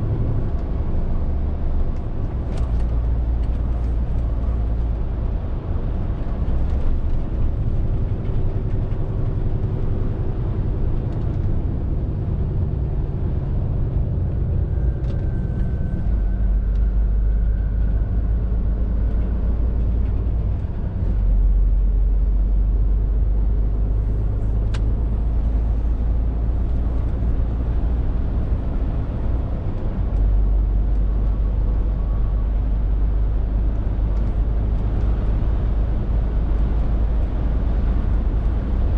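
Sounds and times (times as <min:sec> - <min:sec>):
lorry diesel engine rumble: 0:00.0 - 0:38.9.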